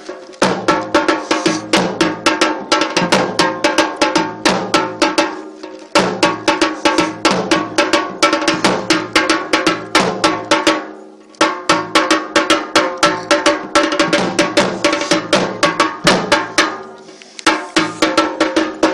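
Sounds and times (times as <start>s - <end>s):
drums fast driving beat: 0.0s - 18.9s.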